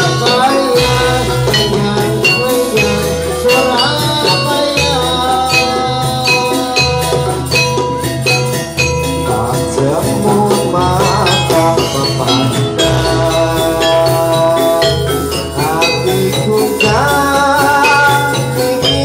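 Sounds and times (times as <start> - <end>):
gamelan music with gongs: 0.0 - 19.0.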